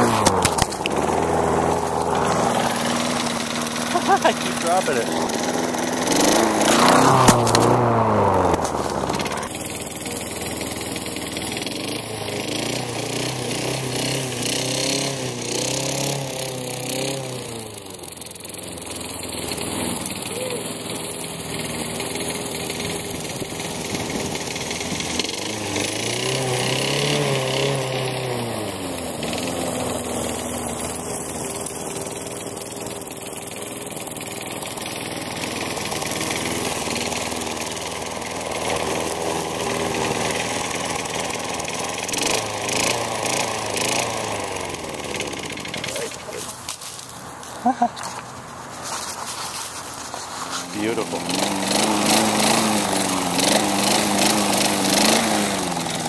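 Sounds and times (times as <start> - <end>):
lawn mower engine revving: 0.0 - 56.0.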